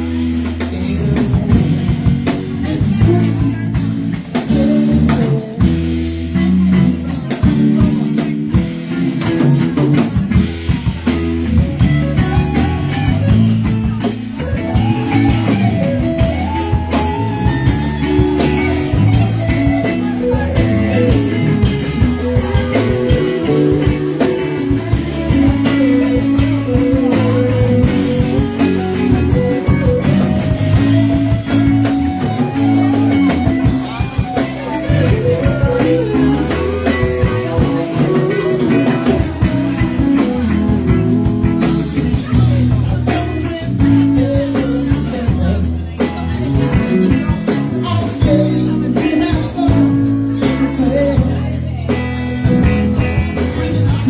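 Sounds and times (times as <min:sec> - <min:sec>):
bass and drums: 0:00.0 - 0:54.0
electric guitar lead: 0:00.0 - 0:54.0.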